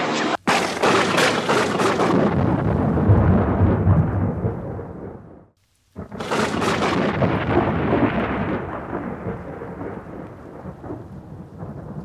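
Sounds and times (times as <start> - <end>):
thunder crack and rumble: 0.0 - 12.0.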